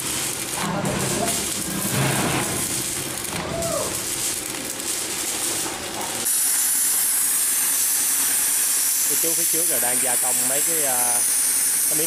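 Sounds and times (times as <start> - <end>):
arc welding crackle: 0.0 - 12.0.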